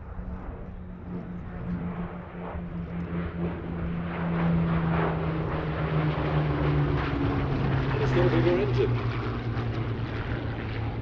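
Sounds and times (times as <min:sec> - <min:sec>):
aircraft engine droning in flight: 0:00.0 - 0:11.0.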